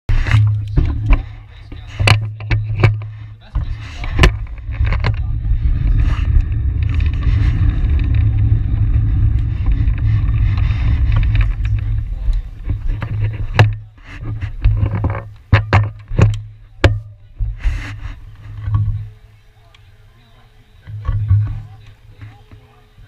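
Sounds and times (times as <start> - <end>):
wind buffeting microphone: 0.1 - 19.2.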